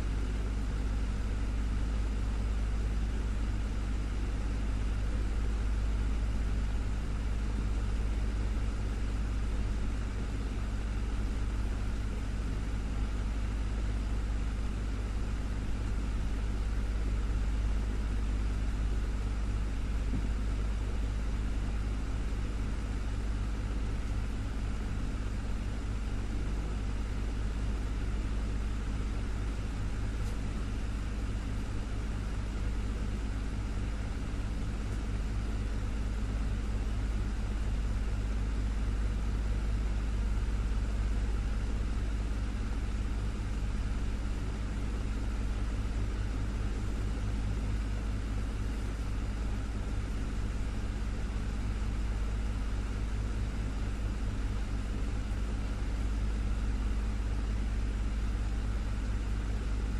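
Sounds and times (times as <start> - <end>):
desktop fan humming: 0.0 - 59.9.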